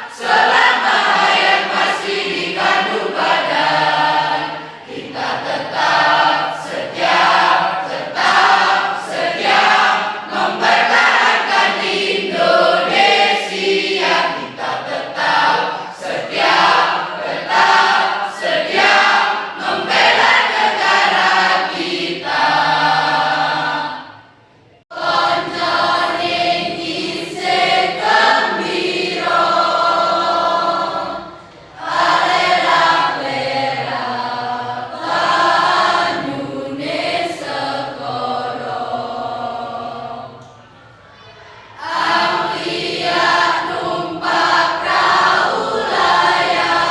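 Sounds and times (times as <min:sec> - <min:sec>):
choir singing: 0:00.0 - 0:46.9.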